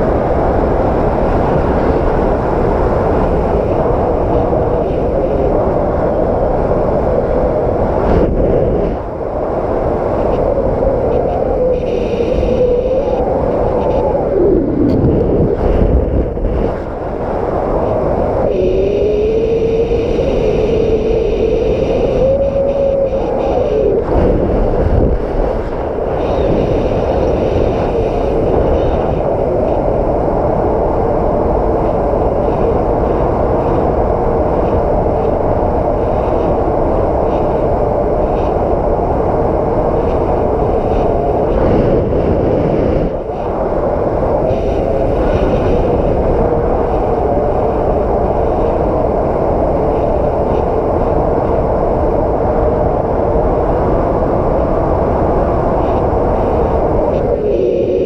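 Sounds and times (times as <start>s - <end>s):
howling wind tone: 0.0s - 58.0s
strong wind on microphone: 0.0s - 58.0s.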